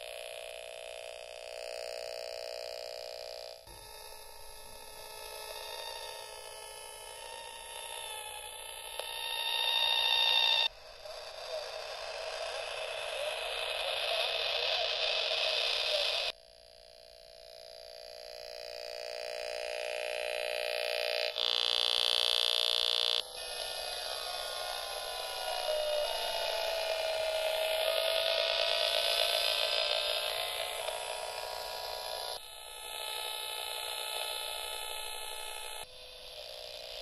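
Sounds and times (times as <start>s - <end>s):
electronic tones and buzzing hum: 0.0s - 37.0s.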